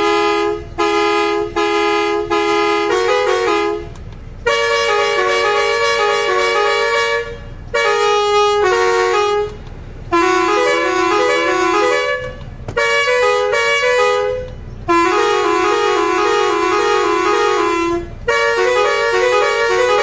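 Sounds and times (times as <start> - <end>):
musical car horn melody: 0.0 - 20.0.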